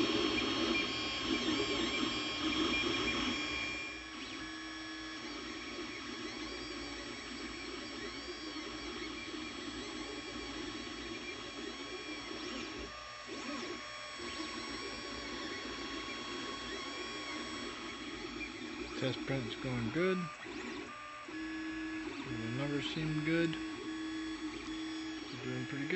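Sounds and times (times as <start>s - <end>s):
printer stepper motor hum: 0.0s - 25.9s
rising and falling motor whines: 0.0s - 25.9s.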